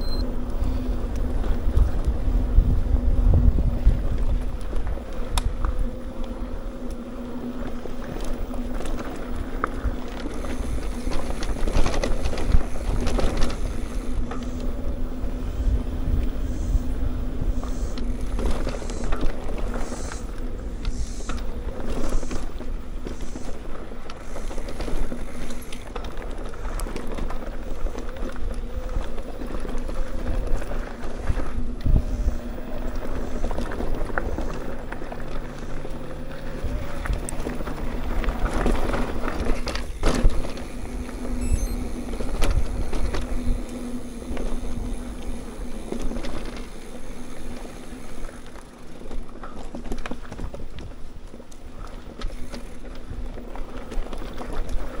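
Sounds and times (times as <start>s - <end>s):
bike tyres rolling on dirt: 0.0s - 55.0s
wind rumbling on microphone: 0.0s - 55.0s.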